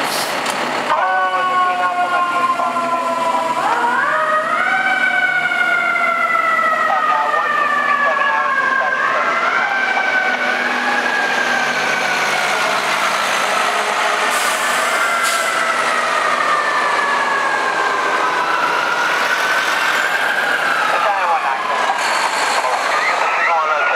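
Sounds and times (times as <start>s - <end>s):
city traffic noise: 0.0s - 23.9s
fire engine siren wailing: 0.0s - 23.9s.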